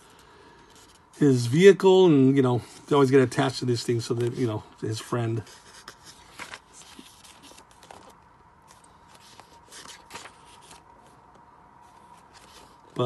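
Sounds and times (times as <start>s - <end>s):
book pages turning: 0.0s - 1.4s, 2.7s - 13.0s.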